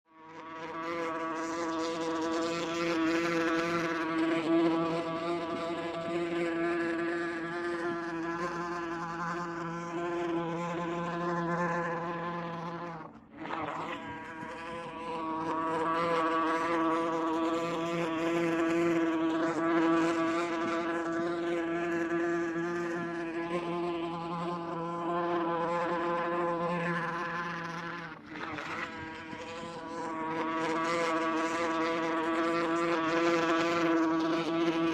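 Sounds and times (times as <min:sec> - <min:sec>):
wasp buzzing in flight: 0:00.1 - 0:34.9.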